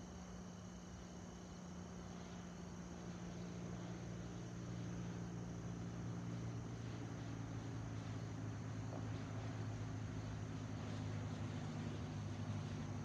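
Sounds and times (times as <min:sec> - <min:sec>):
propeller plane droning overhead: 0:00.0 - 0:13.0.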